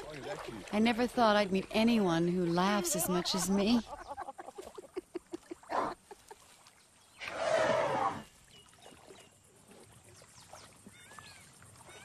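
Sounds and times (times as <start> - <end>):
paddle splashing in water: 0.0 - 12.0.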